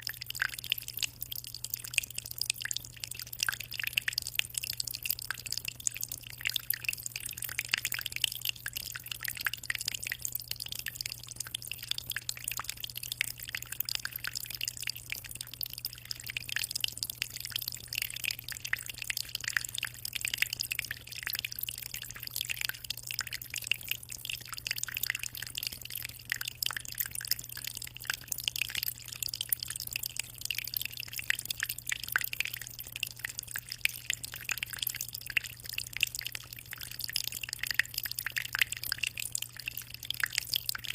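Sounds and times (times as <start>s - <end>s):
water dripping and splashing: 0.0s - 40.9s.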